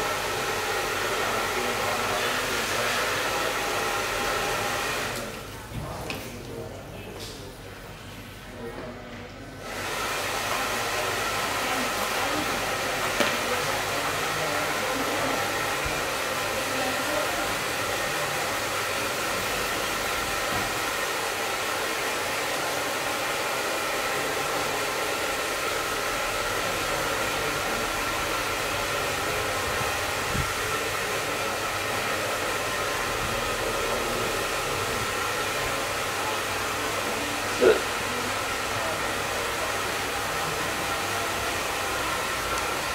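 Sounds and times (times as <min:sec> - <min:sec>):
hair dryer running: 0:00.0 - 0:05.5, 0:09.6 - 0:42.9.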